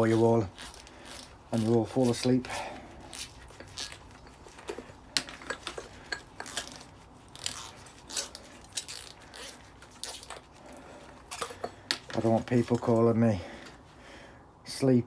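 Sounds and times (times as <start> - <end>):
metal parts clicking and clattering: 0.0 - 13.0.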